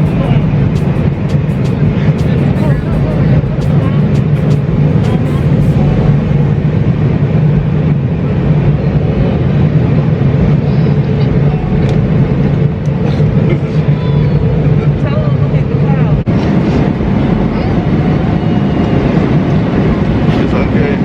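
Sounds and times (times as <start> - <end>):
airliner cabin engine drone: 0.0 - 21.0.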